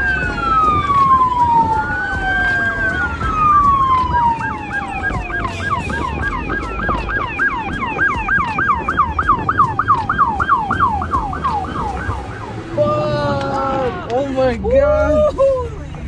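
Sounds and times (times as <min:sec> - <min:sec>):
police siren wailing and yelping: 0:00.0 - 0:14.1.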